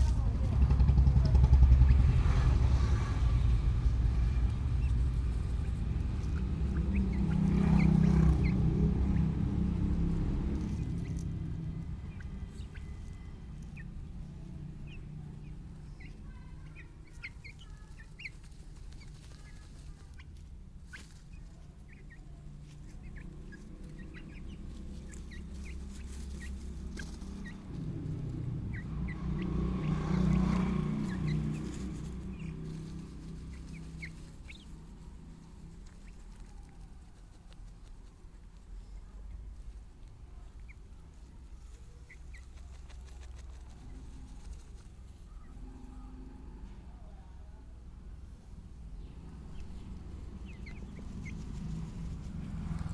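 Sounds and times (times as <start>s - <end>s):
low rumble: 0.0s - 52.9s
chickens peeping: 3.4s - 47.3s, 48.4s - 52.9s.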